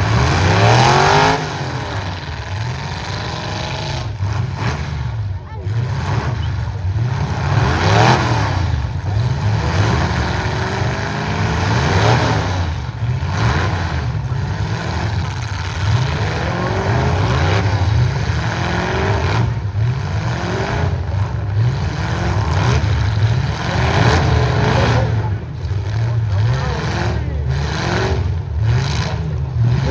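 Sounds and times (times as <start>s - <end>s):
truck engines revving: 0.0s - 29.9s.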